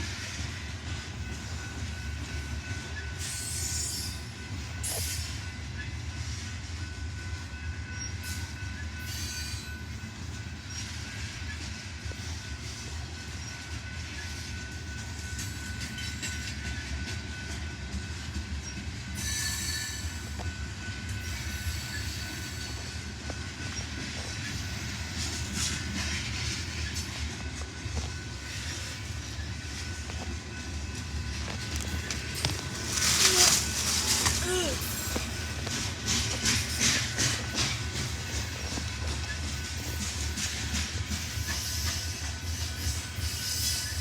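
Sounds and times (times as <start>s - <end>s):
train cars rumbling on rails: 0.0s - 44.0s.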